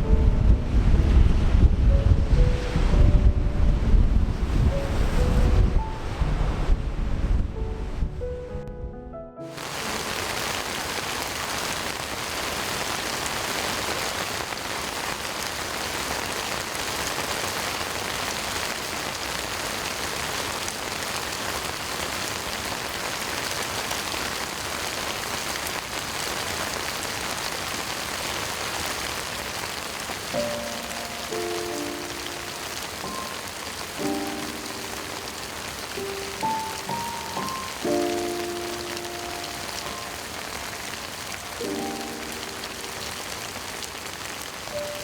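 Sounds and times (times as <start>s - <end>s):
heavy rain pouring: 0.0s - 8.1s, 9.4s - 45.0s.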